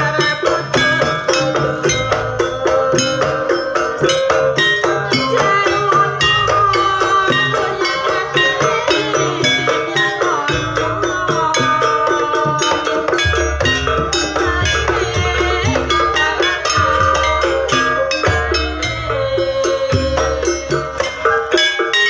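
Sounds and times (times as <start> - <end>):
ringing percussion and drums: 0.0 - 22.0
wavering melody line: 0.0 - 22.0.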